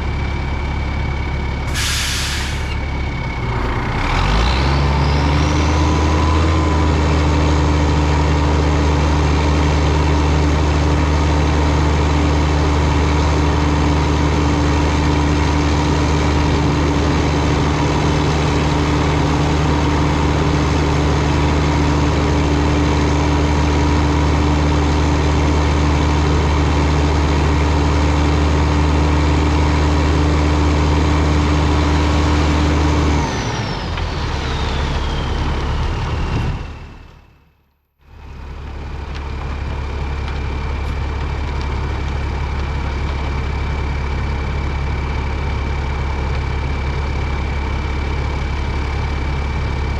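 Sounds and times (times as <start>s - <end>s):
diesel engine revving: 1.0s - 49.9s.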